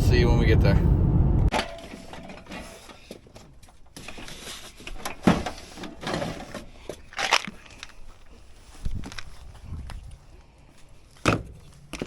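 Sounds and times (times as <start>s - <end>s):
rustling handling noises: 1.7s - 12.0s.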